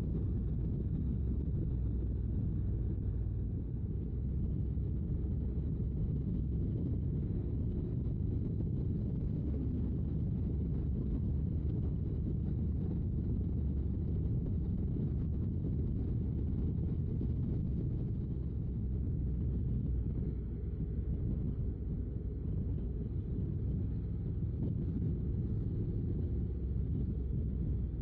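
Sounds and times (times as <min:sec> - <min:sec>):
wind rush on microphone: 0:00.0 - 0:28.0.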